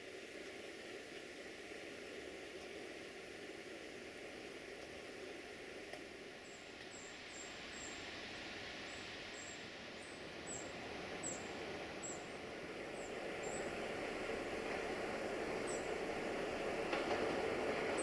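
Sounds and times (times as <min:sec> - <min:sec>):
freight train rumbling: 0:00.1 - 0:18.0.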